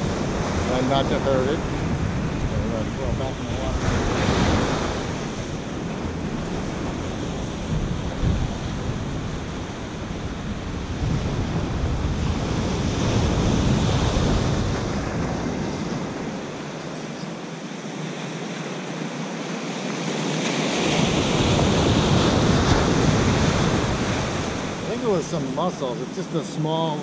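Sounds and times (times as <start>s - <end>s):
wind rumbling on microphone: 0.0s - 17.4s, 19.0s - 25.7s
ocean surf on sandy beach: 0.0s - 27.0s.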